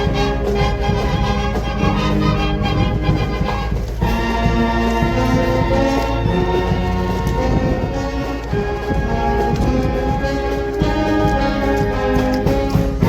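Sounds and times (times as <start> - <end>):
music with long held notes: 0.0 - 13.0.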